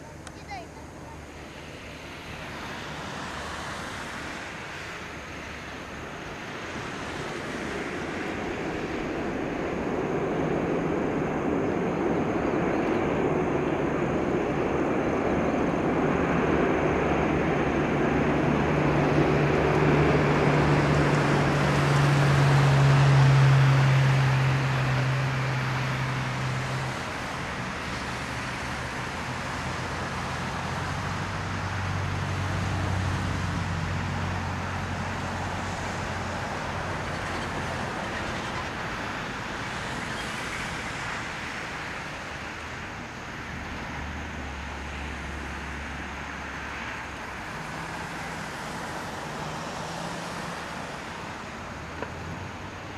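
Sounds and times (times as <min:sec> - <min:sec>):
jet engines running: 0:00.0 - 0:52.9.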